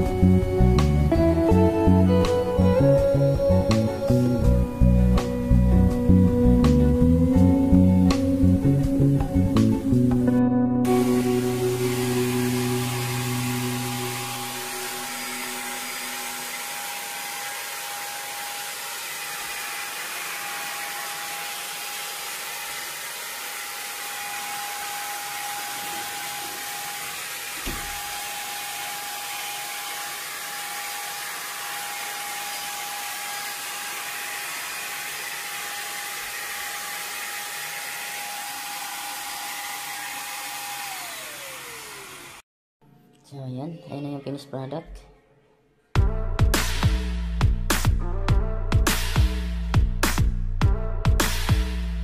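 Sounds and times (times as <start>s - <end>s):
electric air tool whine and airflow: 0.0s - 10.2s, 10.8s - 42.4s.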